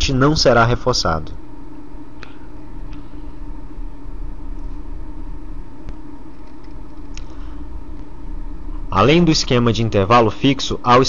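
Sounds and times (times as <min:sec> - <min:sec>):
faint constant tone: 0:00.0 - 0:11.0
low mechanical hum: 0:00.0 - 0:11.0.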